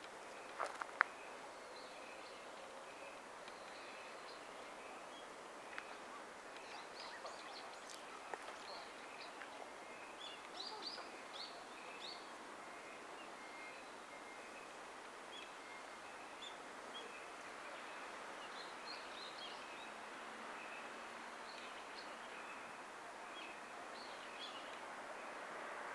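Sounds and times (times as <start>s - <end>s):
faint steady hiss: 0.0s - 25.9s
wild birds chirping: 0.3s - 25.4s.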